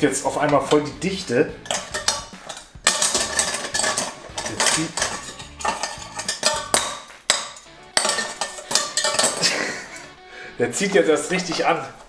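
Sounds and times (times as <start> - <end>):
mixer attachments clinking on metal pot: 0.1 - 12.0.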